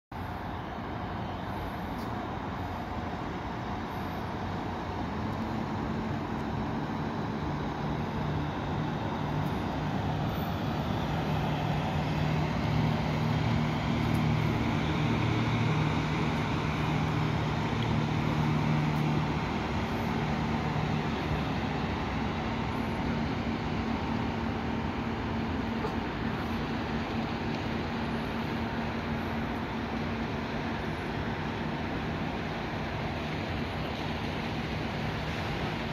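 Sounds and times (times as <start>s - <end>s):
boat engine humming: 0.2s - 35.9s
rushing water noise: 0.2s - 35.9s.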